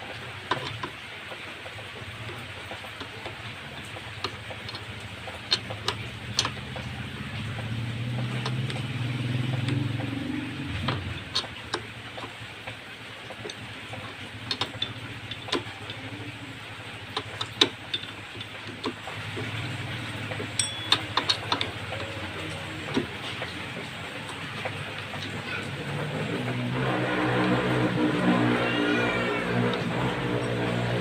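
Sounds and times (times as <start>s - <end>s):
hand tools clicking on metal parts: 0.0s - 31.0s.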